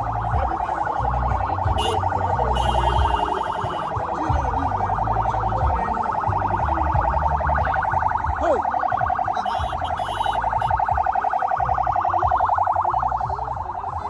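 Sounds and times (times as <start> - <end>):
rapidly pulsing electronic tone: 0.0 - 14.0.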